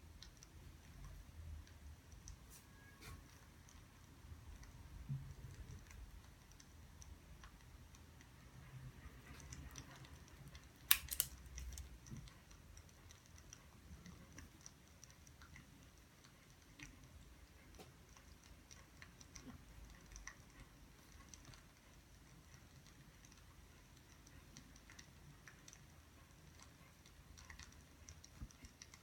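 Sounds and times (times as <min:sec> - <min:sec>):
light clicks and taps: 0:00.0 - 0:29.0.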